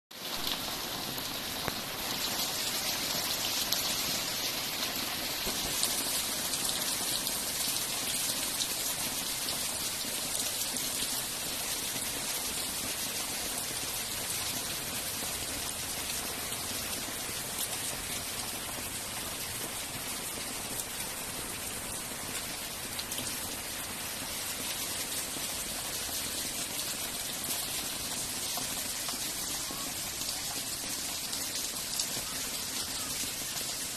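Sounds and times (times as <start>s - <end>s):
heavy rain on concrete steps: 0.1s - 33.9s
water running over steps: 1.5s - 33.9s.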